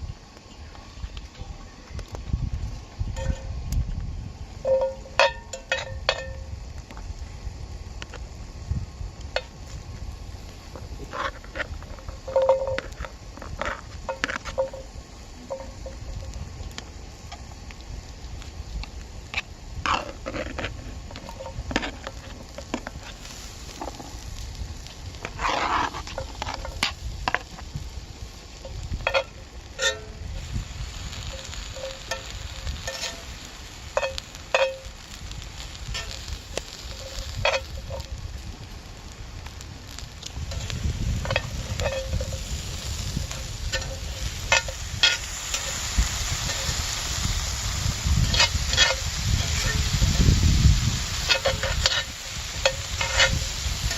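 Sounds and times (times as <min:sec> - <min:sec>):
food sizzling in a pan: 0:00.0 - 0:53.9.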